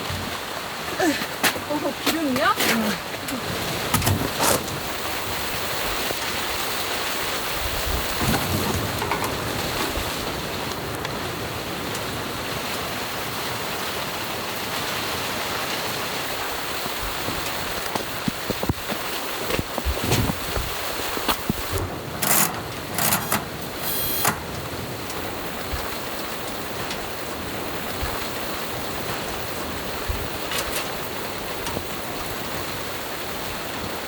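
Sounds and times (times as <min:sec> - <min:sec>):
rain pattering on a tent: 0:00.0 - 0:34.0.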